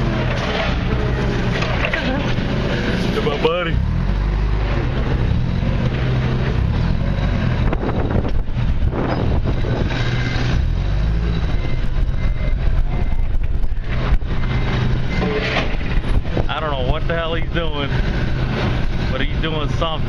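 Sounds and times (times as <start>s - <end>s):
diesel engine rumbling under load: 0.0s - 20.0s.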